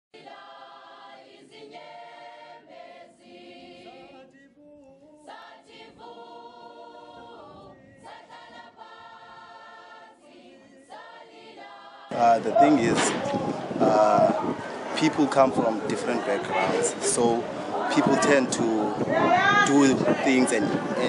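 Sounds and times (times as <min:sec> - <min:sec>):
choir singing: 0:00.2 - 0:21.0.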